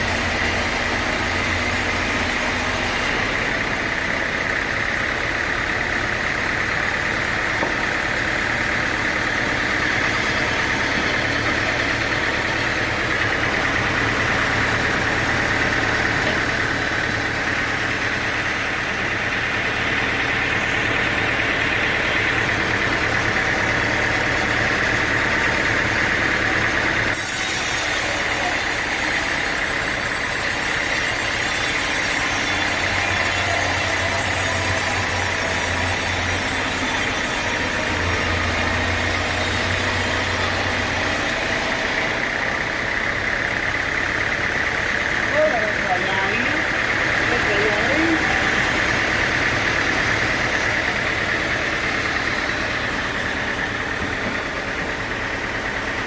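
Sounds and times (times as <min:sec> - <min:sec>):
constant high whine: 0:00.0 - 0:56.0
engine drone: 0:00.0 - 0:56.0.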